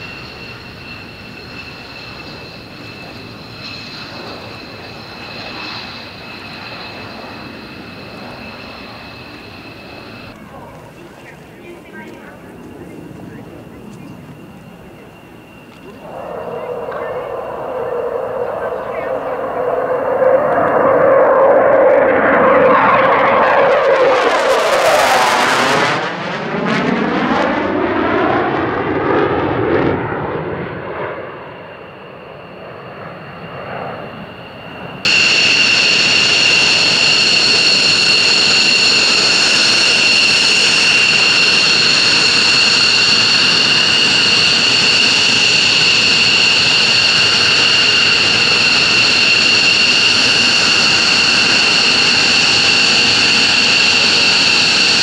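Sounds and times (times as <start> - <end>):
jet engines idling whine: 0.0 - 55.0
jet engines passing: 0.0 - 55.0.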